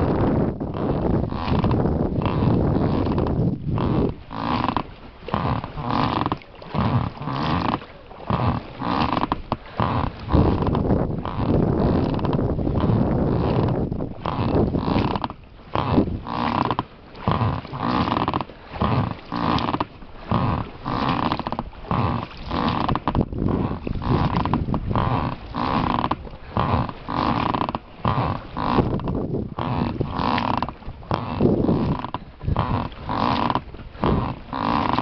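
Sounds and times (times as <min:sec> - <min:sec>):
oars creaking in oarlocks: 0:00.0 - 0:35.0.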